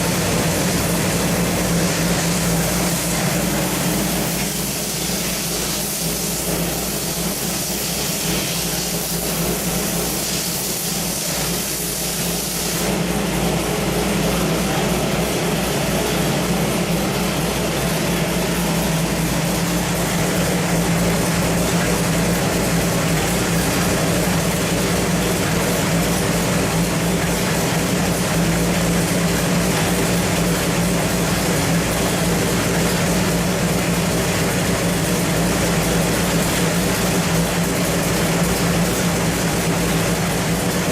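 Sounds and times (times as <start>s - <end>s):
engine running on a dyno: 0.0s - 40.9s
steady hiss: 0.0s - 40.9s.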